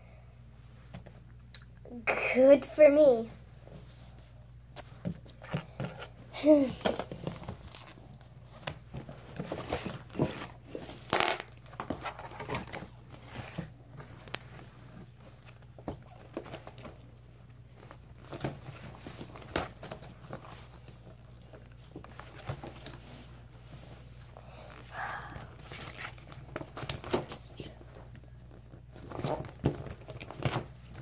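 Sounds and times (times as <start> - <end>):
paper rustling and crinkling: 4.8 - 31.0.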